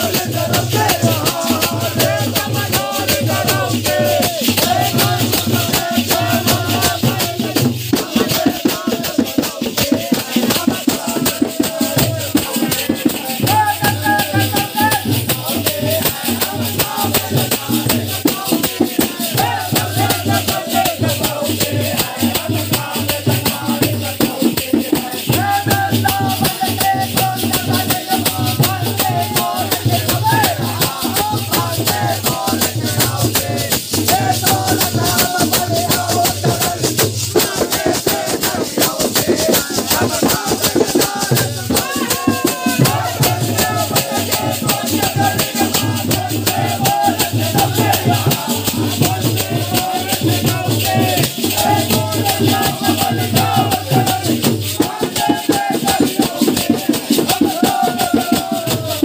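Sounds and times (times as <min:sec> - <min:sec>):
small metal cymbals jingling: 0:00.0 - 0:57.2
hand drum beating rhythm: 0:00.0 - 0:59.0
men singing folk song: 0:00.0 - 0:59.0.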